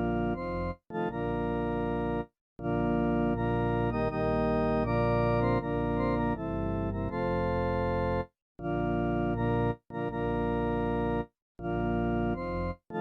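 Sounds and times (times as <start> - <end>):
electronic organ chords: 0.0 - 13.0.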